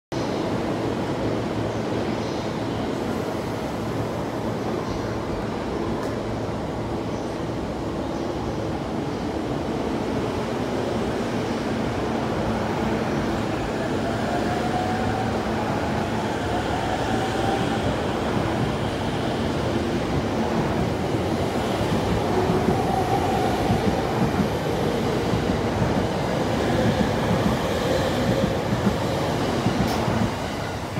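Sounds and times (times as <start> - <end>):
train rolling rumble: 3.0 - 30.9.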